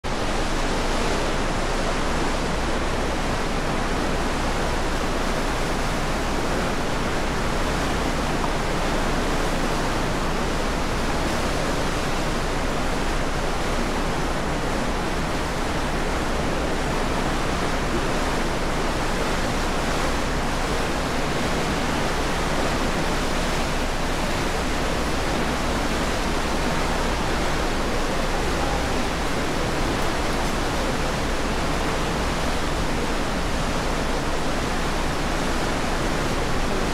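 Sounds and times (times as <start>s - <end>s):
churning propeller wake: 0.0s - 36.9s.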